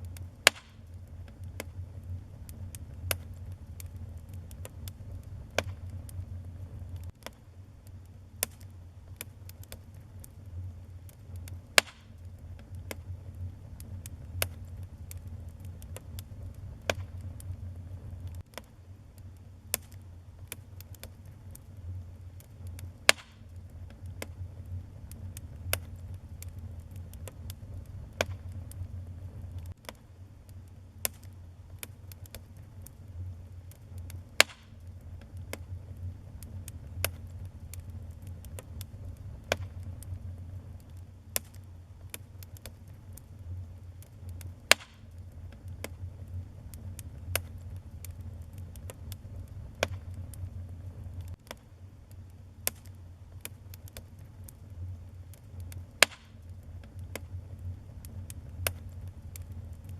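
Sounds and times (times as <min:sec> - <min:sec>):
wood fire burning: 0:00.0 - 0:59.9.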